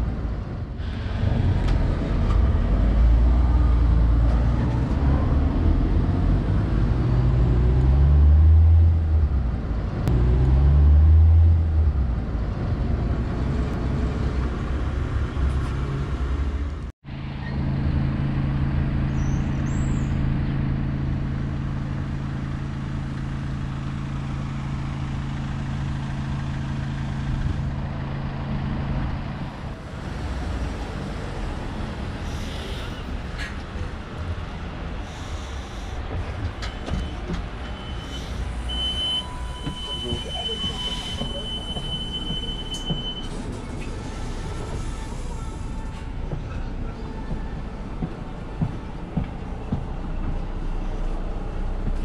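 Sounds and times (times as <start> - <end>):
bus approaching: 0.0 - 52.0
engine hum: 0.0 - 52.0
vehicles passing: 0.0 - 52.0.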